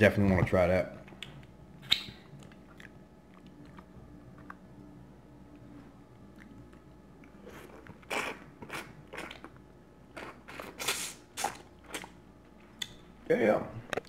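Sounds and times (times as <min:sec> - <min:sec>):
wet chewing and crunching: 0:01.0 - 0:13.0.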